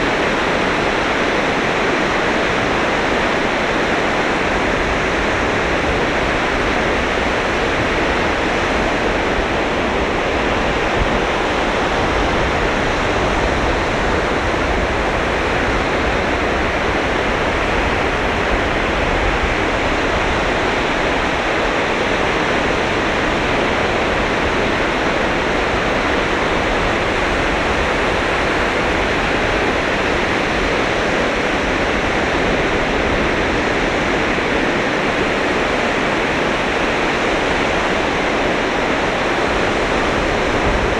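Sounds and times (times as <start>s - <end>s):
sea surf washing onto beach: 0.0s - 40.9s.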